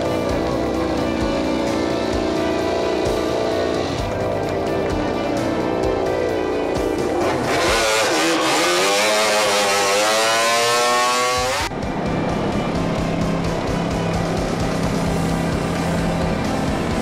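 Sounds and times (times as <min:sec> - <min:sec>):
background music: 0:00.0 - 0:17.0
racing motorcycle engine accelerating: 0:00.0 - 0:17.0.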